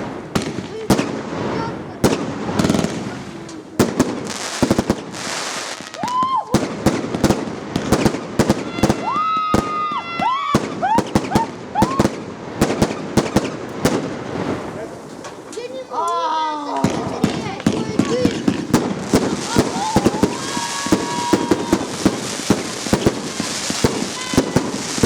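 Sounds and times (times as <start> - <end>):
firework cake shots and bangs: 0.0 - 15.7, 16.8 - 25.0
whistling firework shells: 2.1 - 15.7, 16.8 - 25.0.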